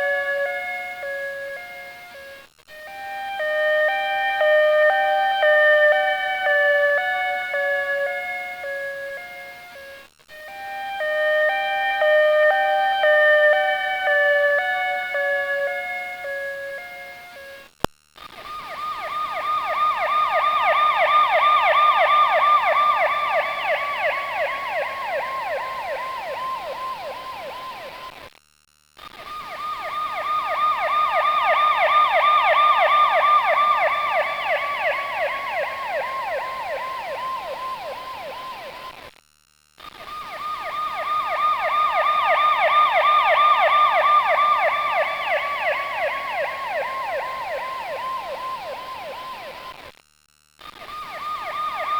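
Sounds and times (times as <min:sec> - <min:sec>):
emergency vehicle siren warbling: 0:00.0 - 0:17.5, 0:18.5 - 0:28.1, 0:29.3 - 0:38.9, 0:40.0 - 0:49.8, 0:50.9 - 0:51.9.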